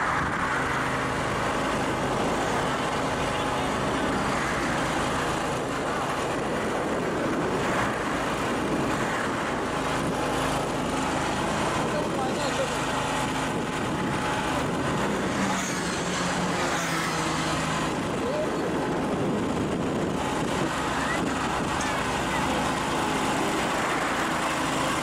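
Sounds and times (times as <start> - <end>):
road traffic over a bridge: 0.0 - 25.0.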